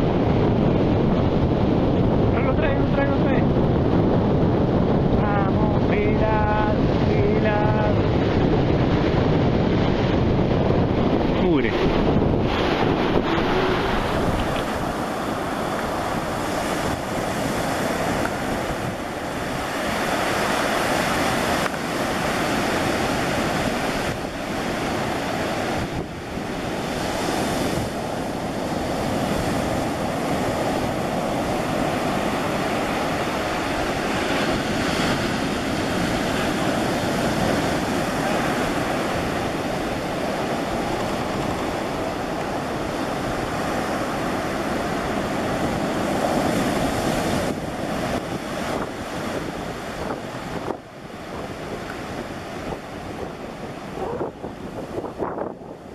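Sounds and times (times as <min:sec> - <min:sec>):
surf breaking on beach: 0:00.0 - 0:55.9
wind buffeting microphone: 0:00.0 - 0:55.9.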